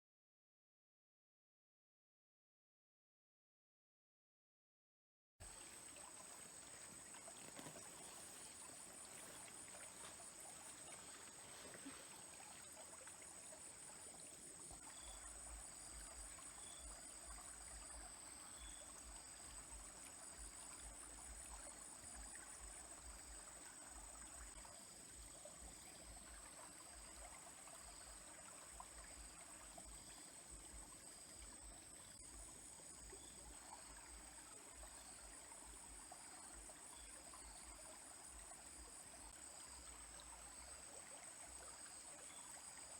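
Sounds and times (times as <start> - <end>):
small stream trickling: 5.4 - 42.9.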